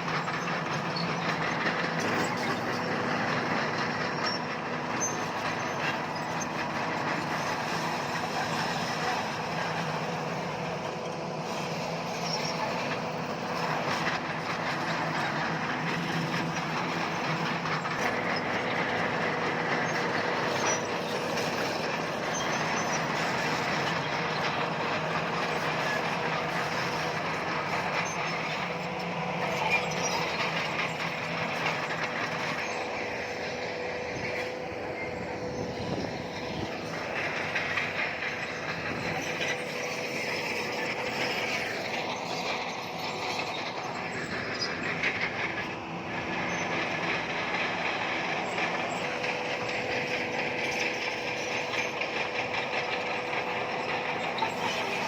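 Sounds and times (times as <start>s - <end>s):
diesel engine under load: 0.0s - 55.0s
steel tracks moving: 0.0s - 55.0s.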